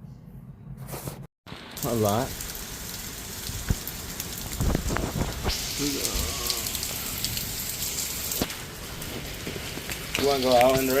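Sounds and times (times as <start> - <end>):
rain pattering on surfaces: 1.5 - 11.0.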